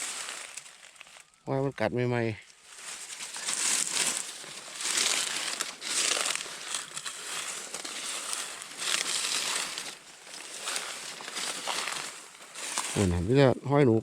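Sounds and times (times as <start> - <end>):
dry leaves crinkling: 0.0 - 1.4, 2.5 - 13.5.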